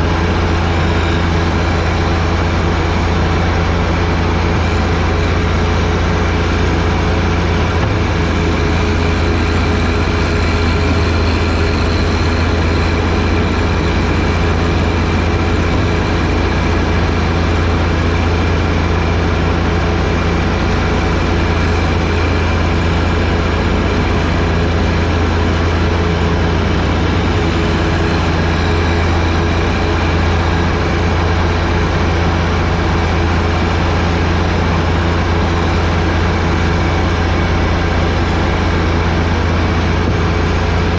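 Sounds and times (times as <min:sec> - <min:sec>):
tractor diesel engine hum: 0:00.0 - 0:40.9.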